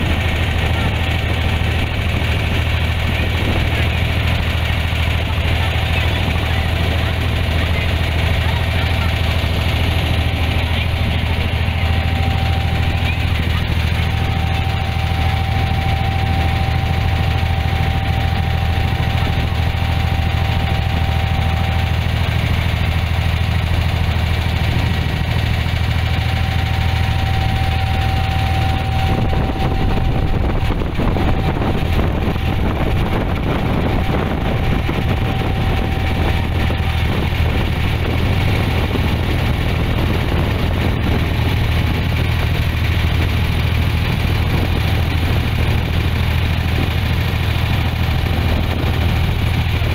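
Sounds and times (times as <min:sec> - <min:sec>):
boat engine droning: 0:00.0 - 0:49.9.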